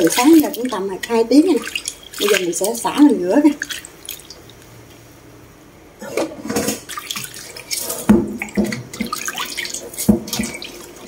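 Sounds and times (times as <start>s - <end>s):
water sloshing in a metal bowl: 0.0s - 4.6s, 6.0s - 11.0s.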